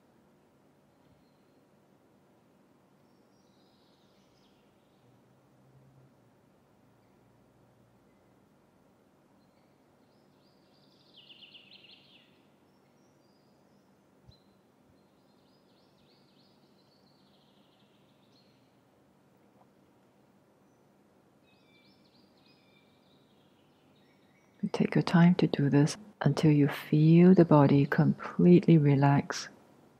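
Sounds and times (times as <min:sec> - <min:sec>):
faint bird chirping: 0:00.7 - 0:06.2, 0:06.9 - 0:29.6.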